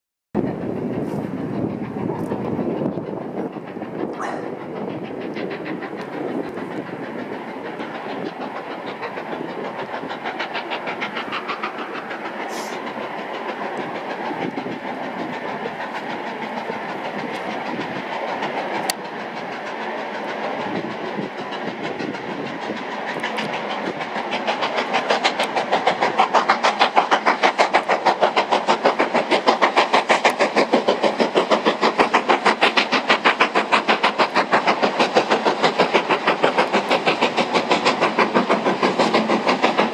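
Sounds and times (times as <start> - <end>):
steam locomotive exhaust beats: 0.4 - 39.9.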